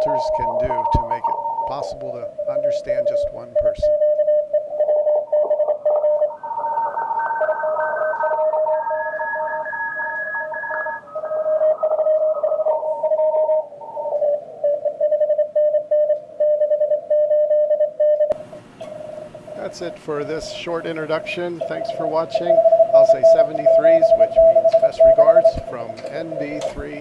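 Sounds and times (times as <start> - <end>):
single keyed morse tone: 0.0 - 19.7, 21.4 - 27.0
overlapping morse signals: 0.0 - 27.0.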